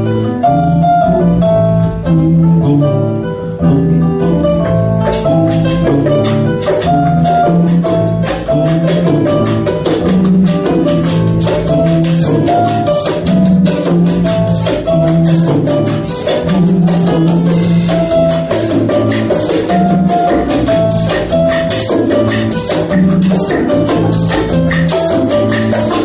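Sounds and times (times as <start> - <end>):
bass line: 0.0 - 26.0
keyboard montuno pattern: 0.0 - 26.0
hand percussion and shakers: 4.3 - 26.0.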